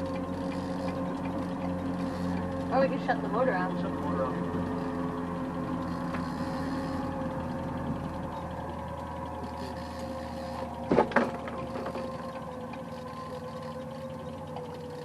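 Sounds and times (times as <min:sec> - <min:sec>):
outboard motor running: 0:00.0 - 0:15.0
steady hum: 0:00.0 - 0:15.0.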